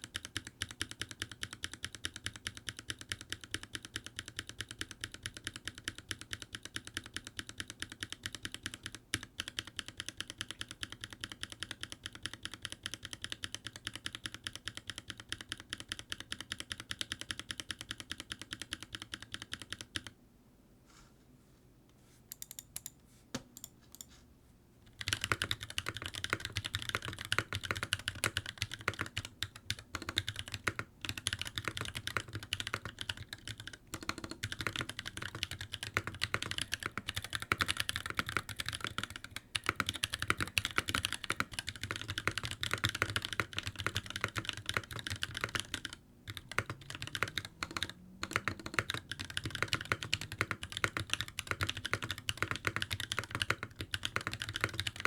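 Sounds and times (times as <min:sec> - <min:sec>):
typing on mechanical keyboard: 0:00.0 - 0:20.2, 0:22.3 - 0:23.0, 0:24.9 - 0:55.0.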